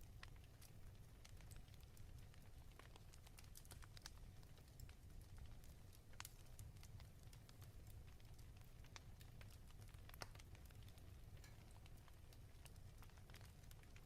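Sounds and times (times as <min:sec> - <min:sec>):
fireplace wood crackling: 0:00.0 - 0:14.0.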